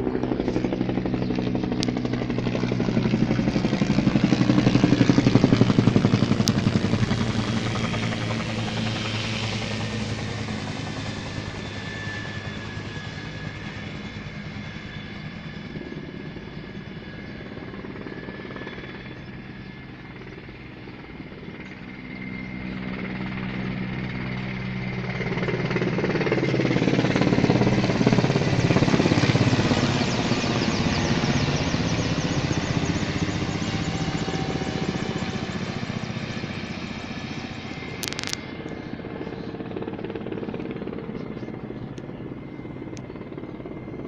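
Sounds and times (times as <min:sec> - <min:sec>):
helicopter rotor beating: 0:00.0 - 0:44.0
helicopters flying overhead: 0:00.0 - 0:44.0.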